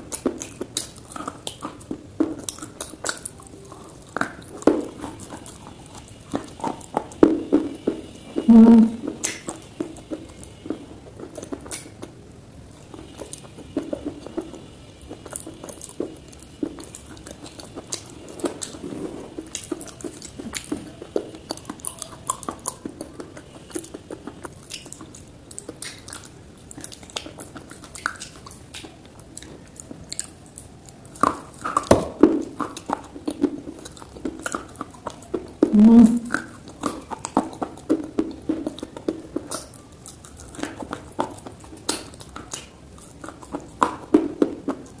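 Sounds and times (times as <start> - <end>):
chewing crunchy clay: 0.0 - 45.0.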